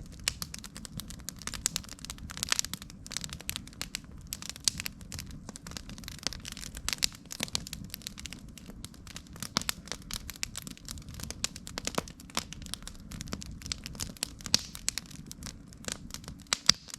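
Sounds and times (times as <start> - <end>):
campfire crackling and popping: 0.0 - 16.9
low rumble of flames: 0.0 - 16.9.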